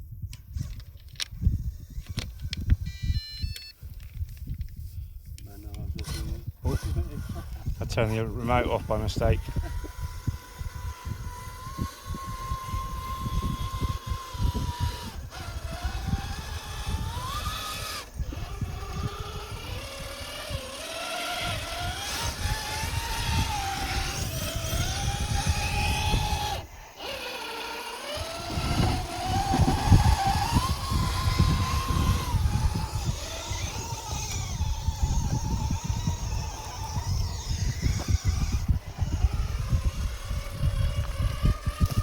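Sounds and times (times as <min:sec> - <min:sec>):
electric motor whine: 0:00.6 - 0:03.7, 0:05.7 - 0:42.0.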